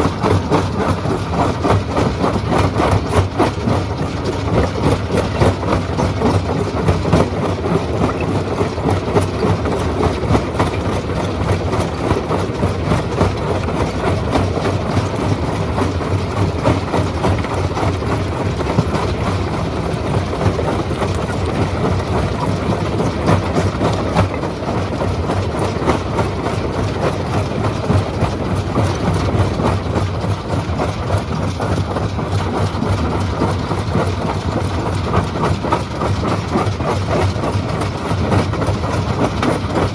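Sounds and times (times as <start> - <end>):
rattle and clatter: 0.0 - 39.9.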